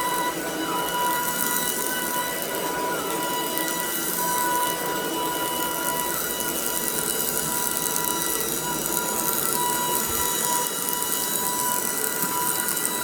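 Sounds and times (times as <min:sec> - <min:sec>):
stick vacuum motor whining: 0:00.0 - 0:13.0.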